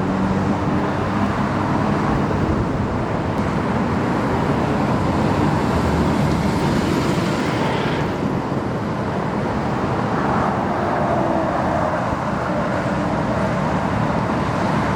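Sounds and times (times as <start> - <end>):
freeway traffic noise: 0.0 - 14.9
vehicles passing by: 0.0 - 14.9.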